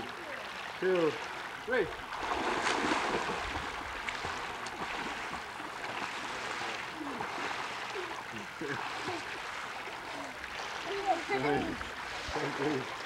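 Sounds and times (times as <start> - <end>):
pool water sloshing and lapping: 0.0 - 13.0.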